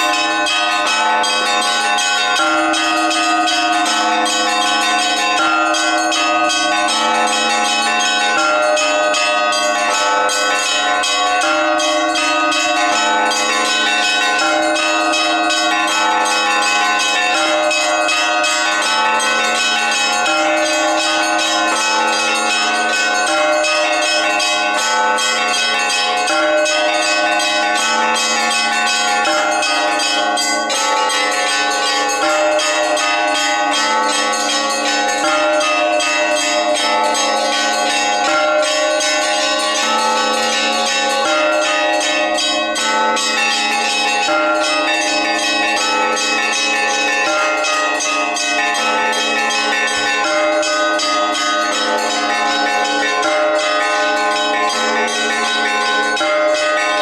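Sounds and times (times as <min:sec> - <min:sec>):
church bells ringing a peal: 0:00.0 - 0:57.0.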